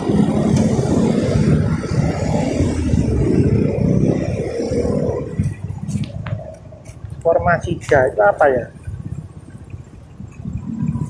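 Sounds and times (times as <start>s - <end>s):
motorcycle and car engines: 0.0s - 11.0s.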